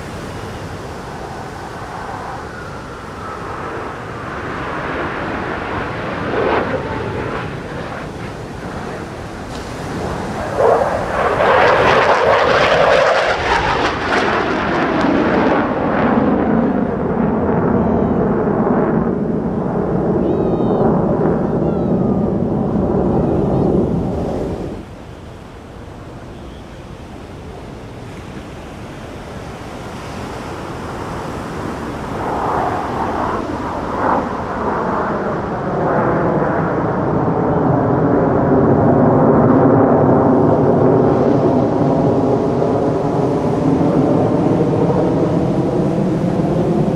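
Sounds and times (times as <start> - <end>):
fighter jet engine roar: 0.0 - 46.9.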